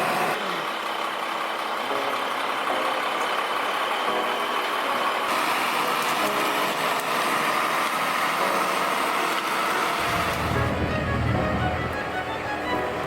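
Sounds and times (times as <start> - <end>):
heavy machine engine running: 0.0 - 13.0.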